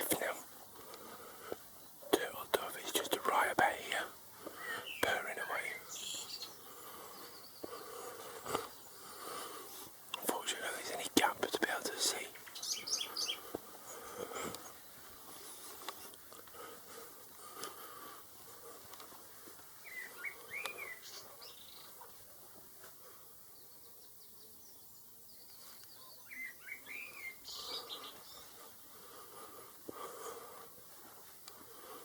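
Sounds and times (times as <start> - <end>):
faint songbird chirping: 0.0 - 32.0.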